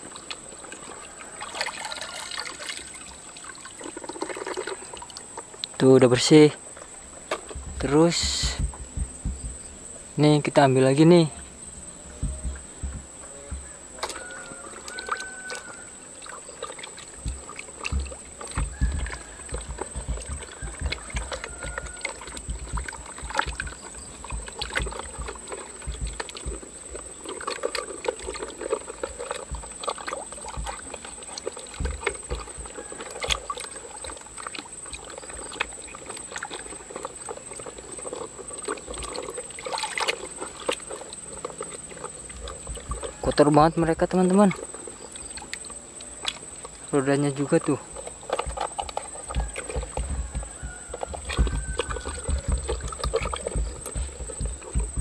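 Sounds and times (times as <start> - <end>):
high insect drone: 0.0 - 55.0
water sloshing in a plastic tub: 0.0 - 55.0.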